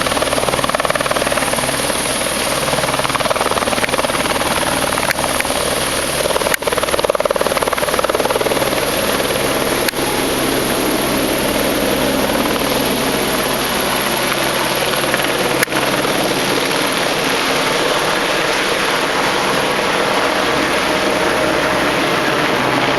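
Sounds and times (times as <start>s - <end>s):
helicopter rotor and engine: 0.0s - 22.9s.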